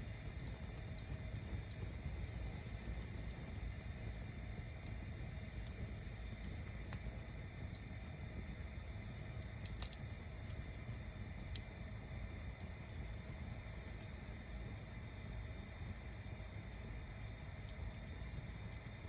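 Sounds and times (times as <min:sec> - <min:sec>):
bonfire flames rumbling: 0:00.0 - 0:19.0
wood popping and crackling: 0:00.0 - 0:19.0.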